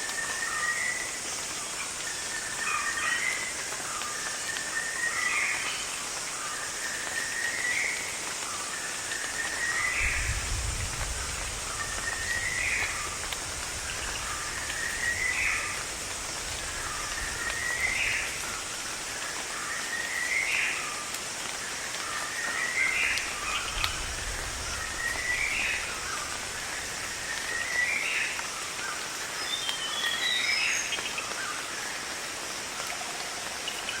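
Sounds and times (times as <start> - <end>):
high hiss of insects or rain: 0.0 - 34.0.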